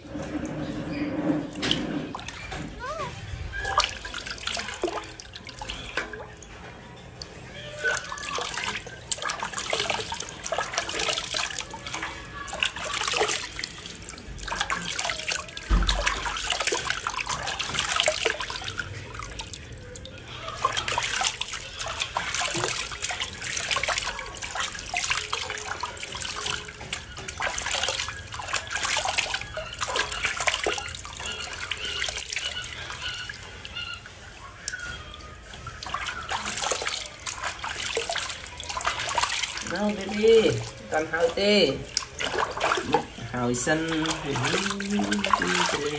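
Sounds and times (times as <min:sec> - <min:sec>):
water splashing in basin: 0:00.0 - 0:45.9.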